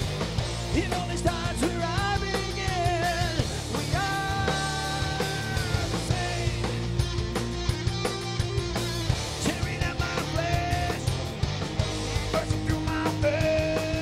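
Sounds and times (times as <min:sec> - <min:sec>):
high melodic guitar line: 0:00.0 - 0:14.0
metal band playing: 0:00.0 - 0:14.0.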